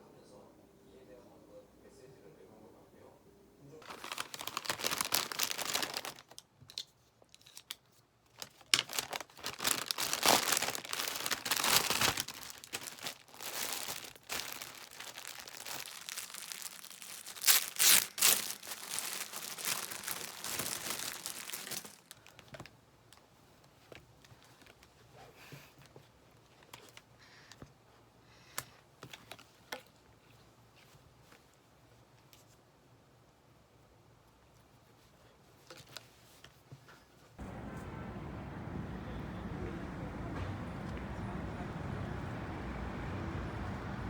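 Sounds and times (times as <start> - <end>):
crinkling and rustling: 3.8 - 27.2, 28.9 - 32.7, 34.2 - 44.0.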